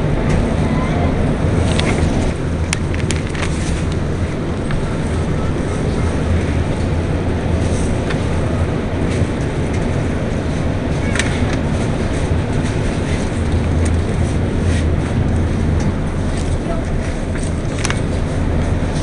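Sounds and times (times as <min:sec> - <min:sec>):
microphone handling rumble: 0:00.0 - 0:19.0.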